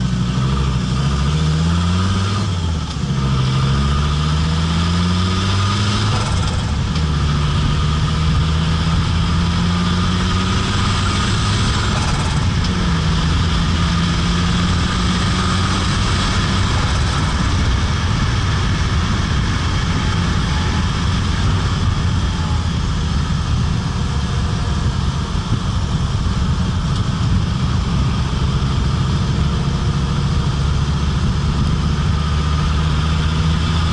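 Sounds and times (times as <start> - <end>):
car engine accelerating through gears: 0.0 - 33.9.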